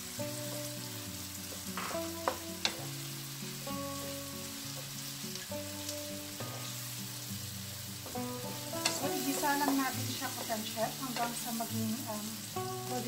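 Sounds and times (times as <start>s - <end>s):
meat sizzling in a wok: 0.0s - 13.0s
soft background music: 0.0s - 13.0s.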